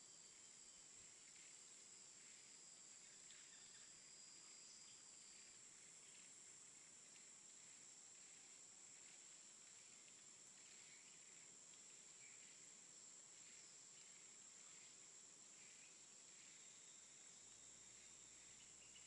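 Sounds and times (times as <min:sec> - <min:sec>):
faint high-pitched hiss: 0:00.0 - 0:19.0.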